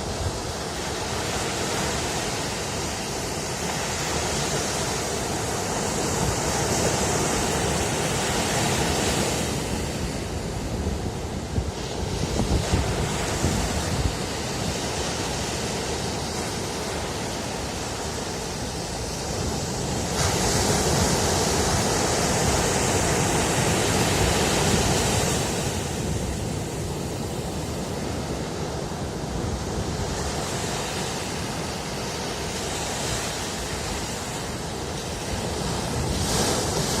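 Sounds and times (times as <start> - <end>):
ocean surf washing in: 0.0 - 37.0.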